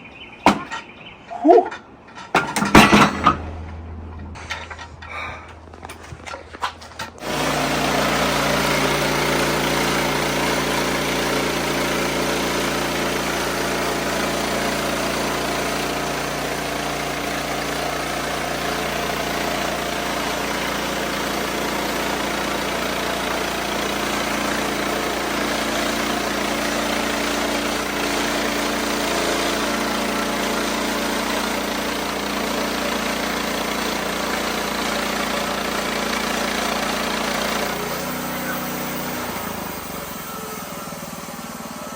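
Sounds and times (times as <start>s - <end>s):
sawmill engine running: 2.1s - 41.9s.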